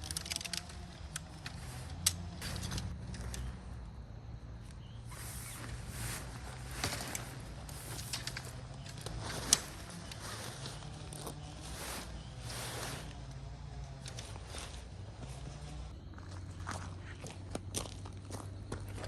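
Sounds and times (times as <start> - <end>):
steady low hum: 0.0 - 19.0
footsteps crunching on ground: 1.5 - 19.0.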